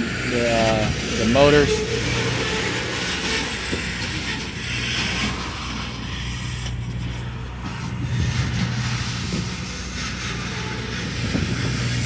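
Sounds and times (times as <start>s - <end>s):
freight car wheels creaking and clanking: 0.0s - 12.0s
steady low hum: 0.0s - 12.0s.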